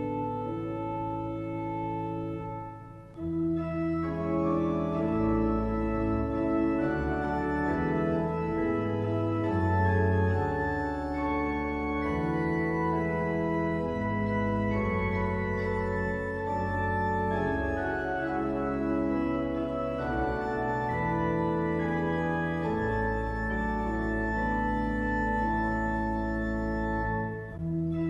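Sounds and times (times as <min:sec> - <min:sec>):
organ playing a hymn: 0:00.0 - 0:28.0.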